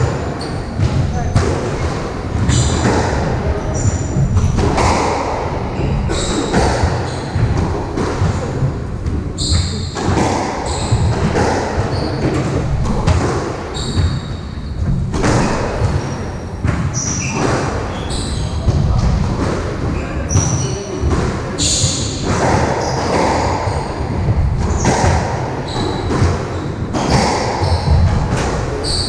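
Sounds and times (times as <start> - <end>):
shoes squeaking on wooden floor: 0.0 - 29.0
squash ball struck by rackets: 0.0 - 29.0.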